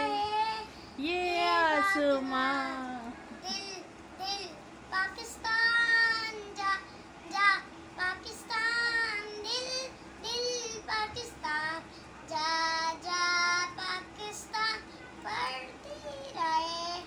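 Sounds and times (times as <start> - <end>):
boy singing unaccompanied: 0.0 - 17.0.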